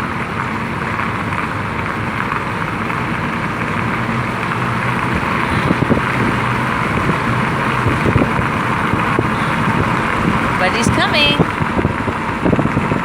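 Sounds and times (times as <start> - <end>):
car engine hum: 0.0 - 13.0
road and air noise hiss: 0.0 - 13.0.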